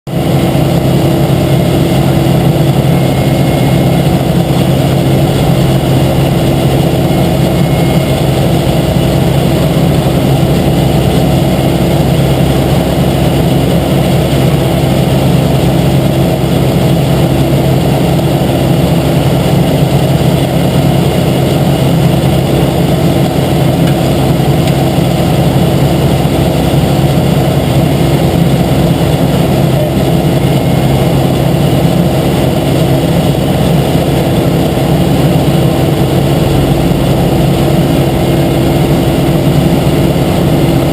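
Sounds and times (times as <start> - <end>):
heavy machinery engine humming: 0.1 - 40.9.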